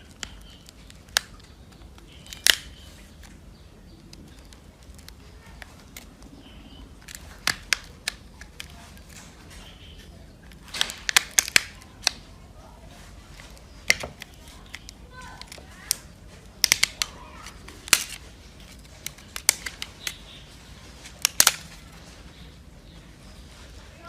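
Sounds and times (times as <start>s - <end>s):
small parts and tools clicking: 0.0s - 12.2s, 13.4s - 21.8s.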